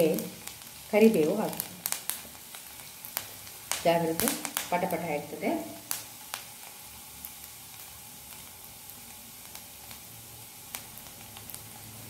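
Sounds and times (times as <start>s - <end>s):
hot oil sizzling in a frying pan: 0.0s - 12.0s.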